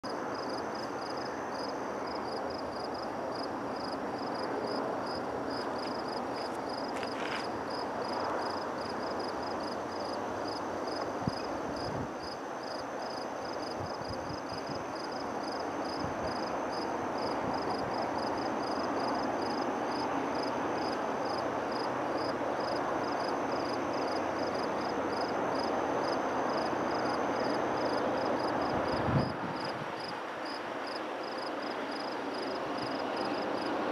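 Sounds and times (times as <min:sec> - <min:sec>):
insects chirping: 0:00.1 - 0:33.9.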